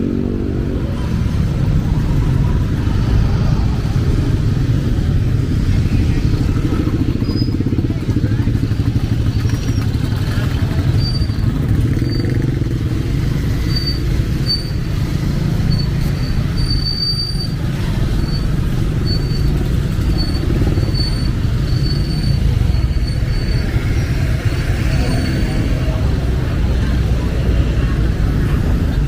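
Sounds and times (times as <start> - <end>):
motorcycle and car engines: 0.0 - 29.0.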